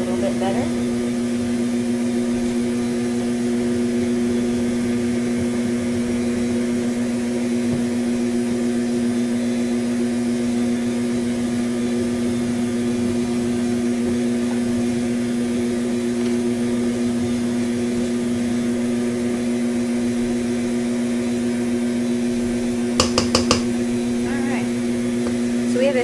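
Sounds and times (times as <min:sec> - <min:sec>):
stand mixer motor humming: 0:00.1 - 0:25.9.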